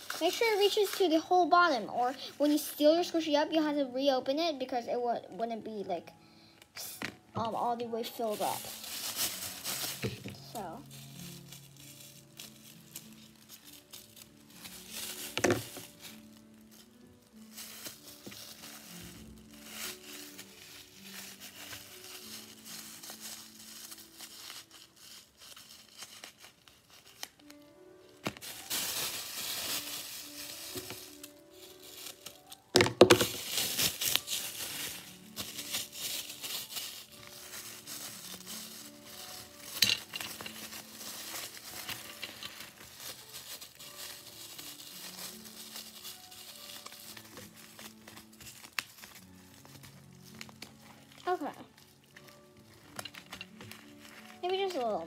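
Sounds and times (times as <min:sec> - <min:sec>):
paper crinkling and rustling: 0:00.0 - 0:03.2, 0:06.8 - 0:55.0
soft piano: 0:00.0 - 0:55.0.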